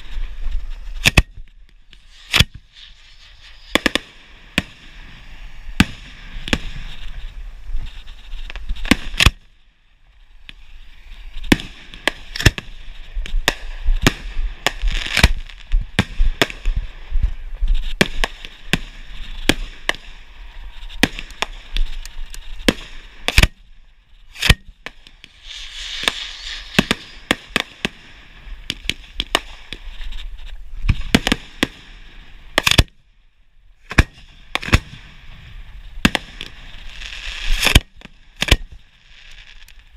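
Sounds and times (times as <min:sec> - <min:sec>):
fireworks bangs: 0:00.0 - 0:32.9, 0:33.8 - 0:39.9
steady hiss: 0:00.0 - 0:39.9.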